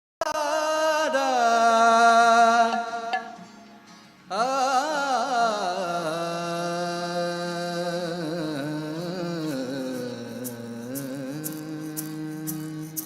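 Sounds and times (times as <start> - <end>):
person singing wordless vocal: 0.2 - 3.6, 4.3 - 13.0.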